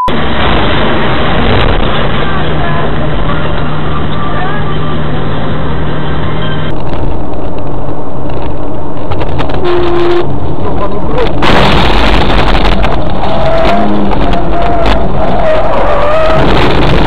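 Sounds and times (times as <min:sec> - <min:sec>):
car road and engine noise: 0:00.0 - 0:17.0
harsh rushing noise: 0:00.0 - 0:17.0.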